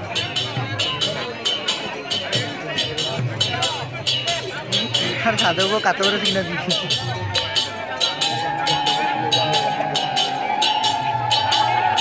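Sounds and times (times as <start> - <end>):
drumming: 0.0 - 12.0
metallic percussion strokes: 0.0 - 12.0.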